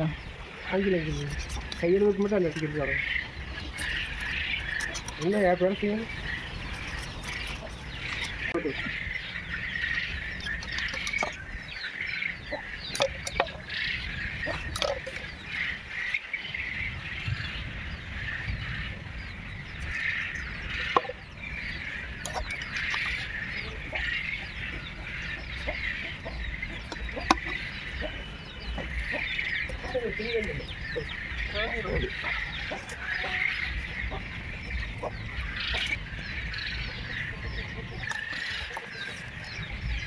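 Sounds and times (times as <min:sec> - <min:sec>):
birds chirping and calling: 0:00.0 - 0:40.0.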